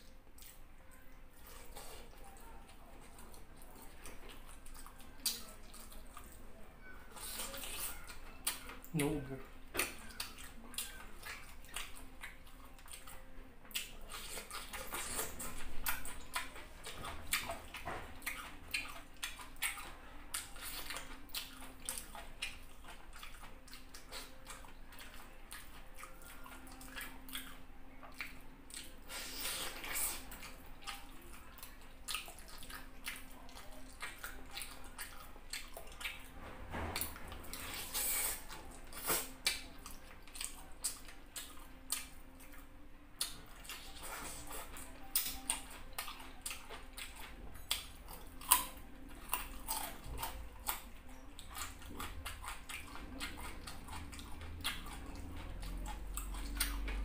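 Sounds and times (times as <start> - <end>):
wet chewing and lip smacks: 0.0 - 6.4, 7.1 - 36.3, 37.0 - 57.0
faint low hum: 0.0 - 57.0.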